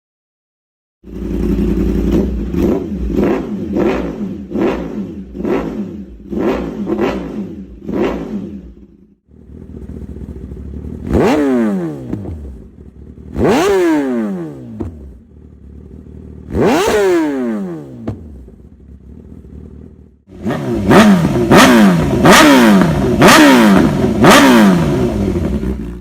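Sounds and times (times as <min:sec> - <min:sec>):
motorcycle engine revving: 0:01.0 - 0:26.0
motorcycle idling: 0:01.0 - 0:26.0.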